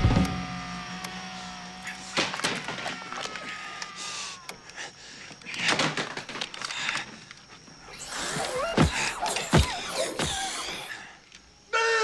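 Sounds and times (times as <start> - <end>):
leg brace motor clicks and whirring: 0.0 - 11.6
wavering mechanical whine: 0.0 - 11.8.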